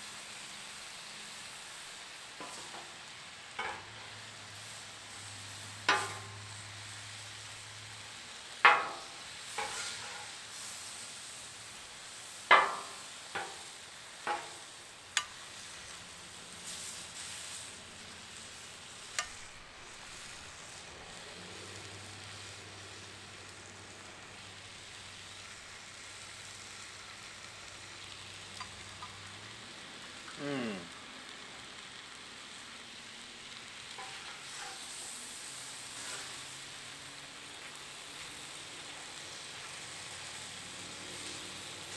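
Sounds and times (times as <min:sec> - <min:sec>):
steak sizzling on a griddle: 0:00.0 - 0:41.9.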